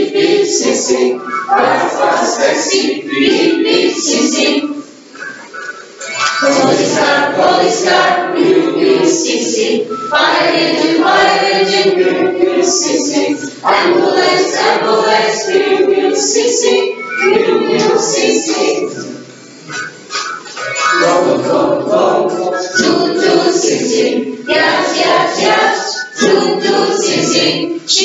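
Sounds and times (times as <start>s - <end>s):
students singing in chorus: 0.0s - 4.9s, 6.4s - 19.8s, 20.7s - 28.0s.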